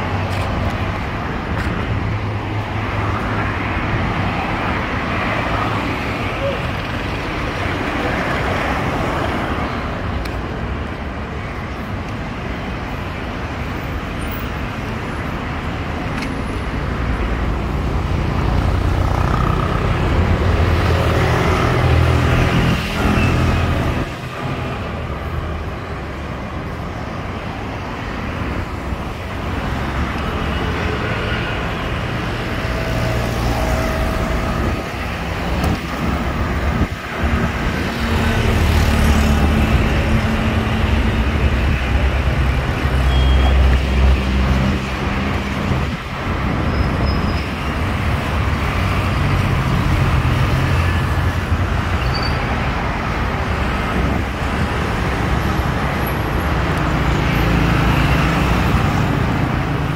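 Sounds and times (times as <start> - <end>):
cars and motorcycles passing: 0.0 - 59.9.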